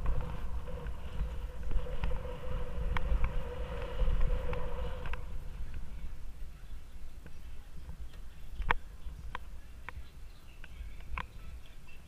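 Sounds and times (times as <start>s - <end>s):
wind buffeting microphone: 0.0s - 11.6s
tyres humming on track: 0.0s - 12.0s.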